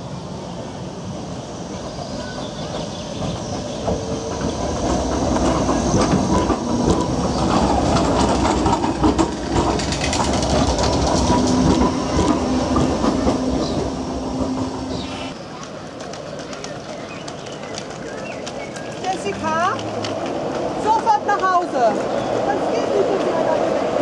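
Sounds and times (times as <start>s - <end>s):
tram wheels clattering on rails: 1.4s - 24.0s.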